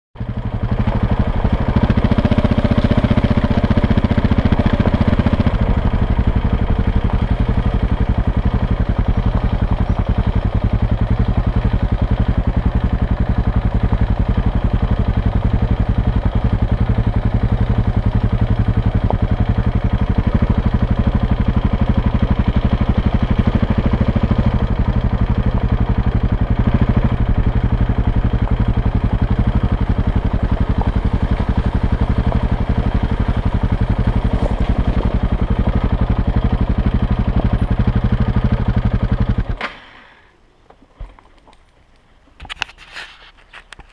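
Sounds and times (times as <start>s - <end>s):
motorcycle engine running: 0.2s - 40.3s.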